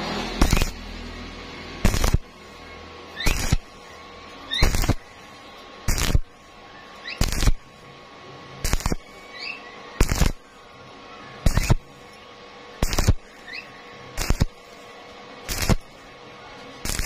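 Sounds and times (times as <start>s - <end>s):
welding arc crackling: 0.0s - 10.8s, 11.4s - 17.0s.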